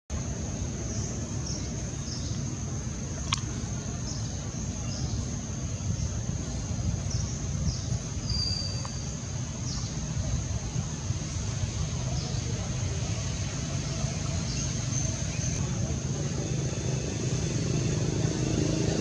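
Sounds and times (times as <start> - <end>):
high insect drone: 0.1 - 19.0.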